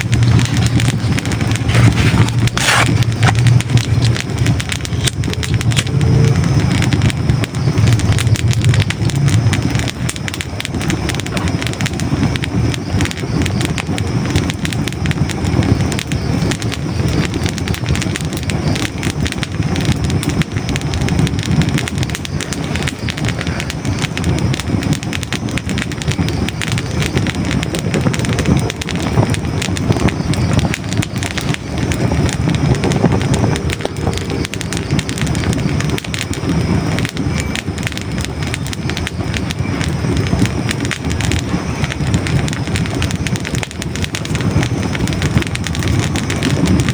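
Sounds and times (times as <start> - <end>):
logs burning with crackles: 0.0 - 46.9.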